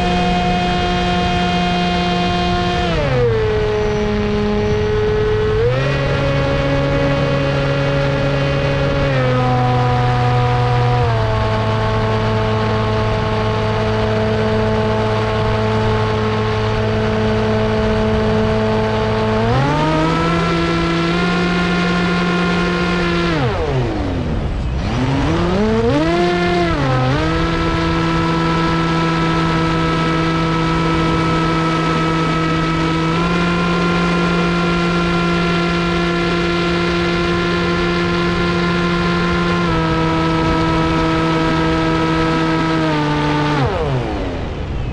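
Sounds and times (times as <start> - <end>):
model plane motor drone: 0.0 - 44.9.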